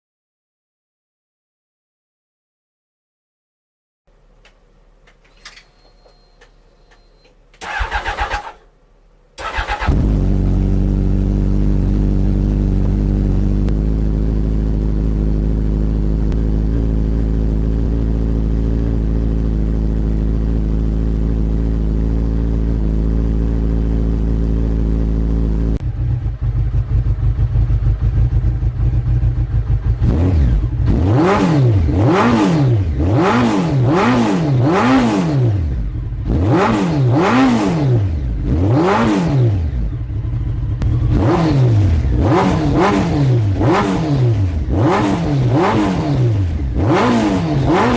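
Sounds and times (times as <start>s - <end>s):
motorcycle engine idling and revving: 4.1s - 47.9s.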